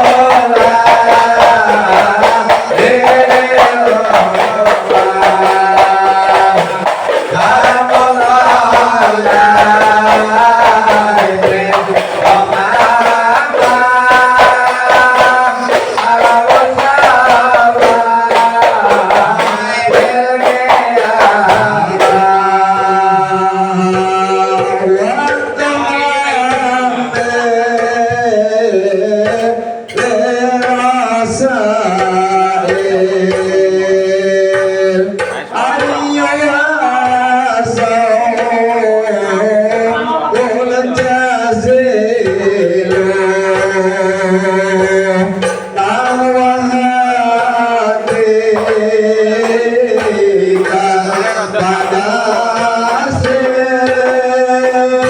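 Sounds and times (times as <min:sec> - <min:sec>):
song with singing and drums: 0:00.0 - 0:55.0.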